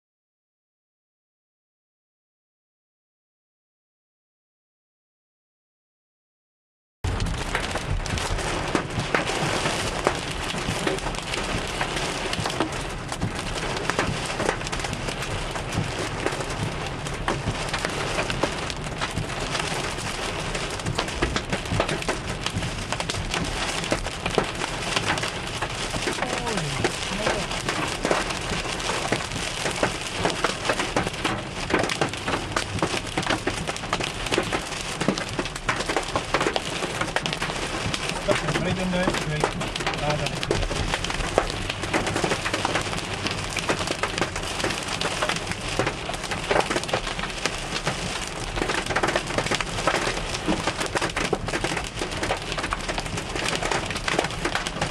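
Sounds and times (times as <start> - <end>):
hailstones hitting a car: 7.1 - 54.9.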